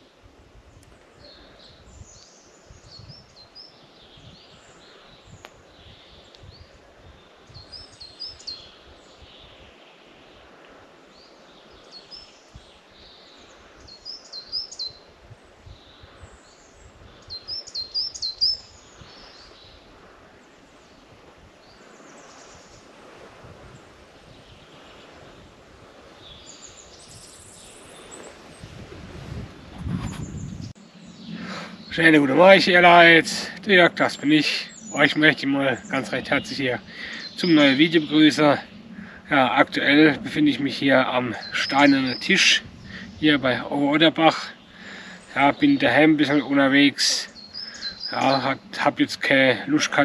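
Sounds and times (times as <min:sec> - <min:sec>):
birds singing: 0:00.0 - 0:28.8, 0:29.6 - 0:50.0.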